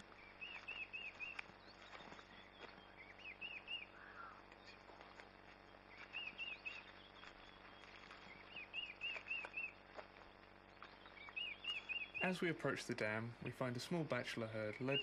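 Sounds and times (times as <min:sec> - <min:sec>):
bird chirping: 0:00.0 - 0:12.8, 0:14.5 - 0:15.0
footsteps on dry dirt: 0:00.0 - 0:15.0.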